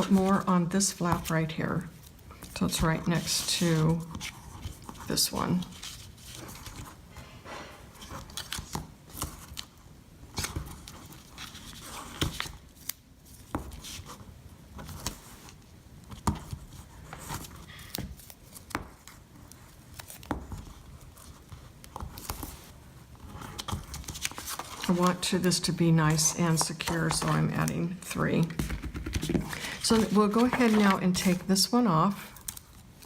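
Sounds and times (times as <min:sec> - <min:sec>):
paper rustling: 0:00.0 - 0:31.8.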